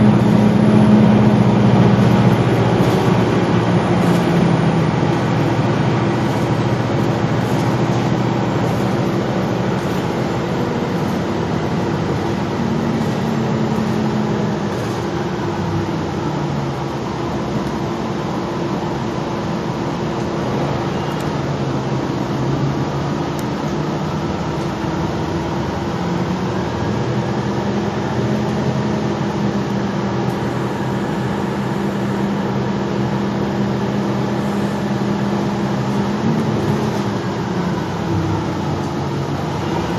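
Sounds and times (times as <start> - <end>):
bus engine droning: 0.0 - 39.9
road noise: 0.0 - 39.9.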